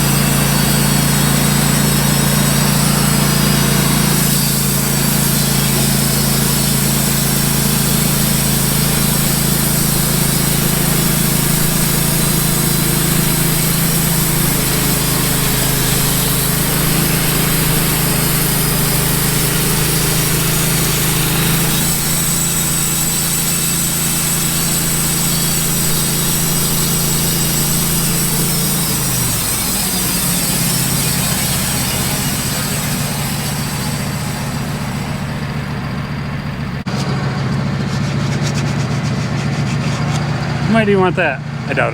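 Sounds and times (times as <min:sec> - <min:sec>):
band sawmill sawing log: 0:00.0 - 0:41.9.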